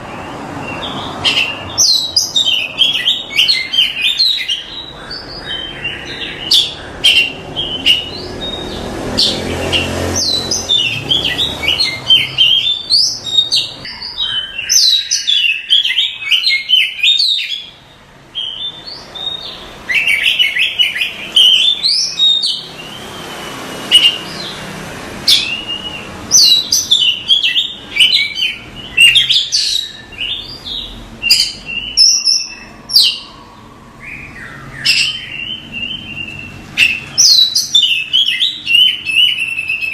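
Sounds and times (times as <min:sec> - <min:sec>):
bird song chirps and trills: 0:00.0 - 0:39.9.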